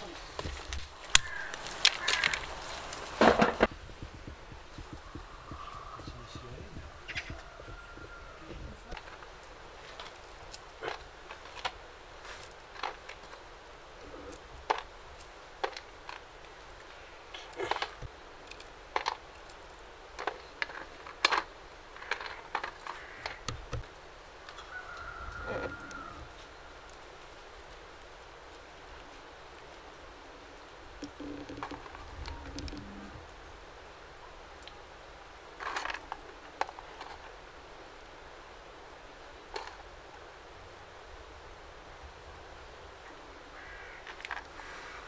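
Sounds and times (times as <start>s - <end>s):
rustling: 0.0s - 38.0s, 42.0s - 45.0s.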